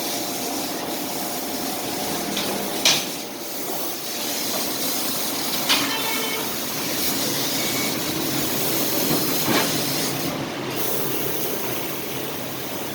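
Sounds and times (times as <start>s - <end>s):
laser cutter hissing: 0.1s - 12.9s.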